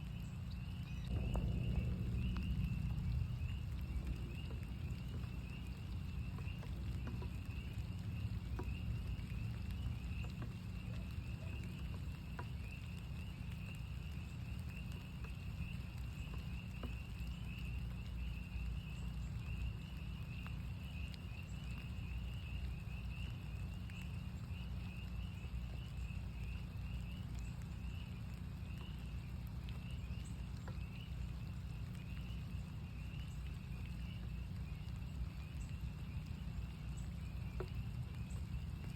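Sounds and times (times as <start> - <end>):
frogs peeping in chorus: 0.0 - 38.9
rain hissing: 0.0 - 38.9
raindrops pattering: 0.0 - 38.9.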